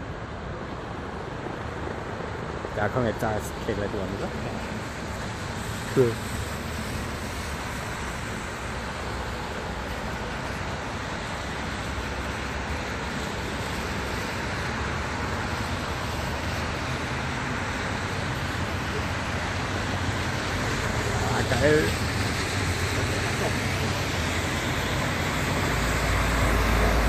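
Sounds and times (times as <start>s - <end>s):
traffic on wet road: 0.0s - 27.0s.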